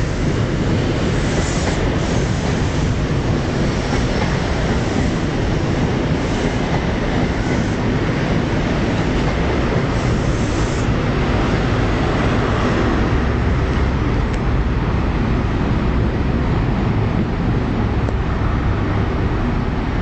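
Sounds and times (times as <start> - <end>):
train engine and wheels rumbling: 0.0 - 20.0.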